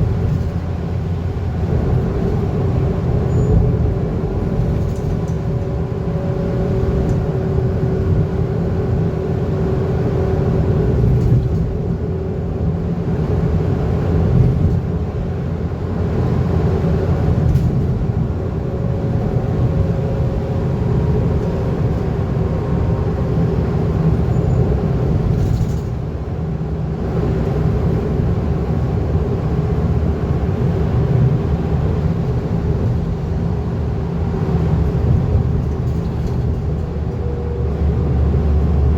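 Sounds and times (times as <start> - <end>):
bus diesel engine rumble: 0.0 - 38.9
road noise: 0.0 - 38.9.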